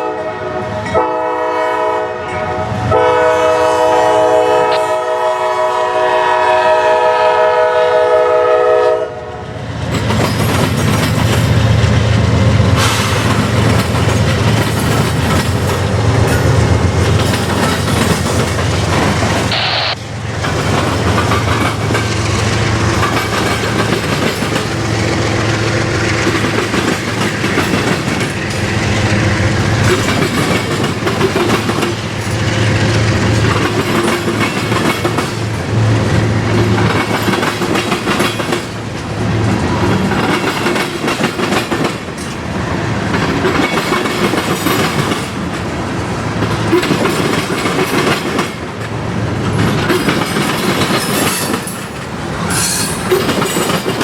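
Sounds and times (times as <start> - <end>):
train wheels clacking on rails: 9.6 - 54.0.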